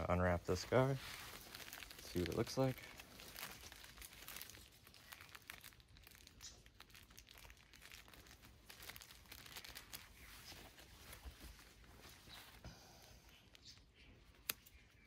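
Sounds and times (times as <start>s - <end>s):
tape and wrapping crinkling: 0.0s - 15.0s.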